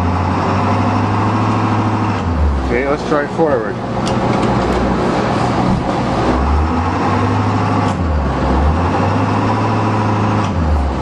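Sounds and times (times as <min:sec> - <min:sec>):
bus diesel engine revving: 0:00.0 - 0:11.0.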